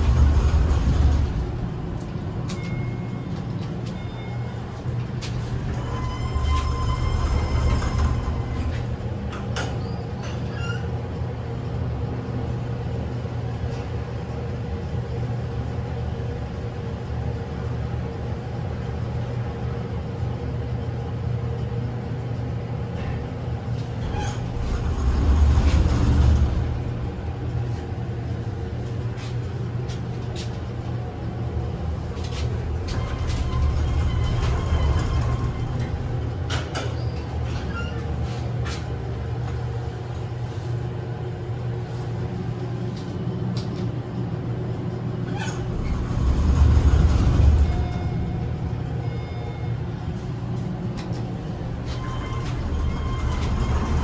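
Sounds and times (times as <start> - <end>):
elevator humming: 0.0 - 54.0.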